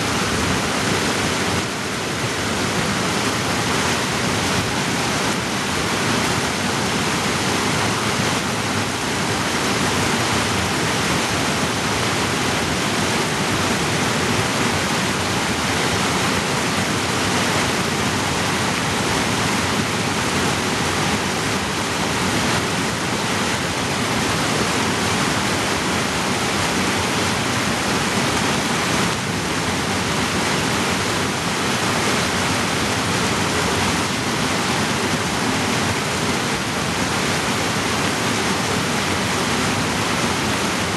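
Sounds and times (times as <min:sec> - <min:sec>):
creek rushing over boulders: 0:00.0 - 0:40.9.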